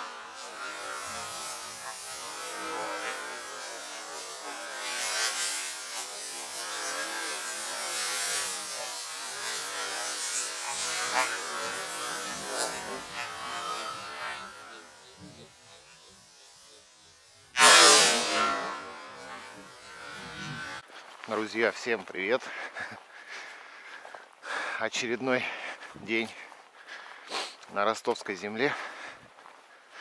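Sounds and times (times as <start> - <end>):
dry reeds rustling: 0.0 - 24.4.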